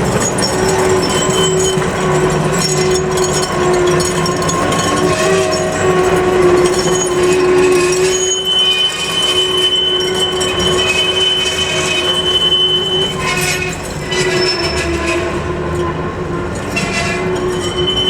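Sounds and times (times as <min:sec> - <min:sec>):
tram running noise: 0:00.0 - 0:18.0
tram wheels squealing on rails: 0:00.0 - 0:18.0.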